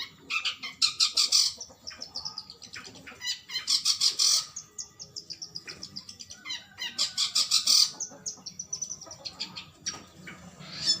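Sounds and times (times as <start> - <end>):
bird singing rapid high chirps: 0.0 - 11.0.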